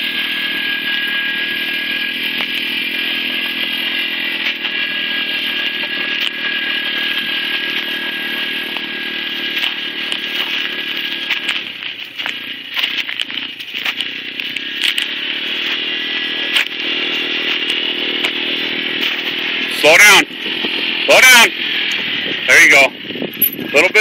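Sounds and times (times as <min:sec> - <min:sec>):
quad engine buzzing whine: 0:00.0 - 0:24.0.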